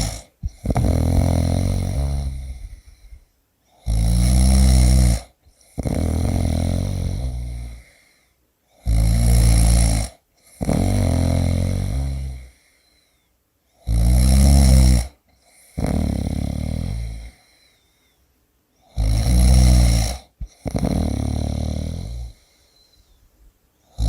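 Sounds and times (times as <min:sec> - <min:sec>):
rasping snoring: 0:00.0 - 0:08.1, 0:08.7 - 0:12.7, 0:13.8 - 0:17.6, 0:18.8 - 0:22.9.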